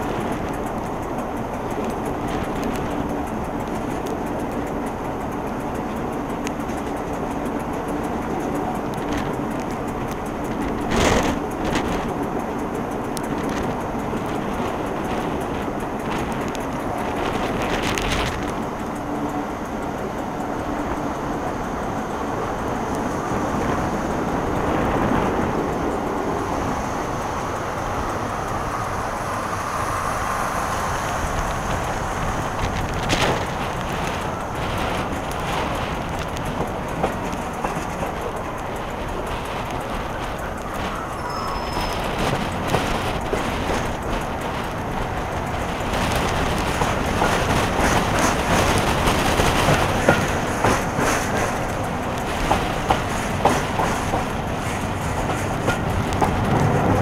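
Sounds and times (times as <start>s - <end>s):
steady whine: 0.0s - 57.0s
train wheels rumbling on track: 0.0s - 57.0s
wind rush: 0.0s - 57.0s.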